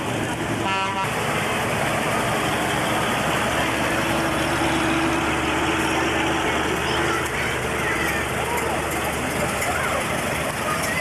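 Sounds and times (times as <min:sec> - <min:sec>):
large vehicle engine running: 0:00.0 - 0:11.0.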